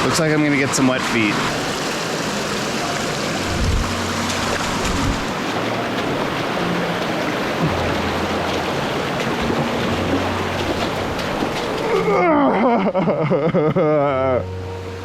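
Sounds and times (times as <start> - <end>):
rushing mountain stream: 0.0 - 15.0.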